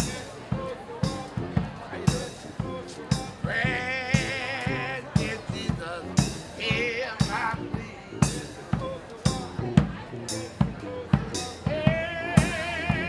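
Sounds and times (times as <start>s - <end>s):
drum beat: 0.0s - 13.0s.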